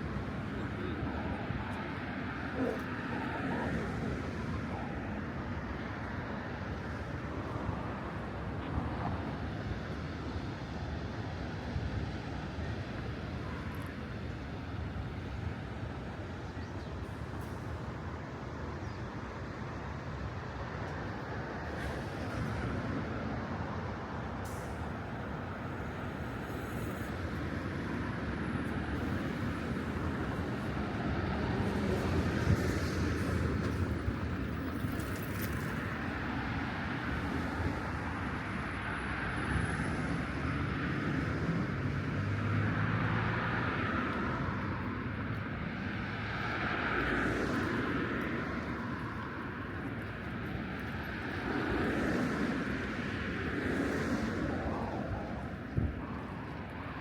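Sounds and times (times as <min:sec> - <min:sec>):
low rumble of traffic: 0:00.0 - 0:57.0.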